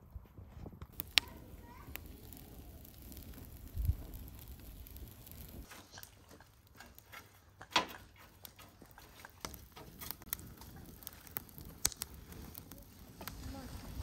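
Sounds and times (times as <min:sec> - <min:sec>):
twigs crackling in fire: 0:00.6 - 0:14.0.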